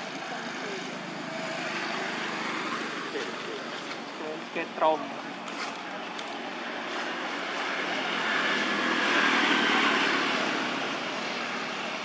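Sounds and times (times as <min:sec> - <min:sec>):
road vehicle passing by: 0:00.0 - 0:12.0.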